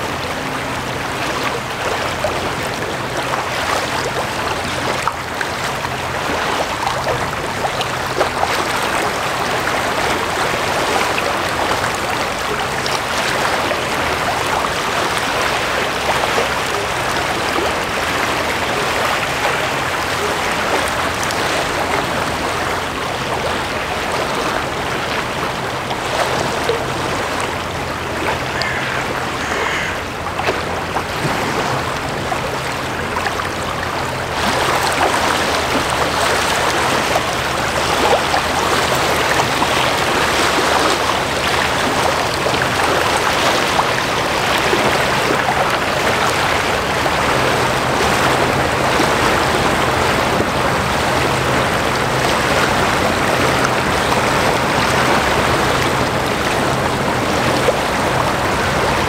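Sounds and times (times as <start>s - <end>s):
water washing and splashing: 0.0s - 59.0s.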